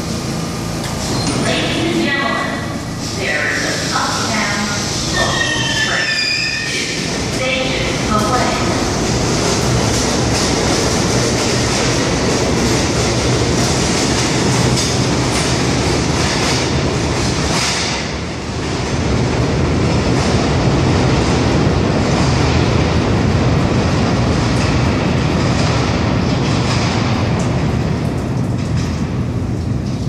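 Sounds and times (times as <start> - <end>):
subway train rumbling on rails: 0.0 - 30.0.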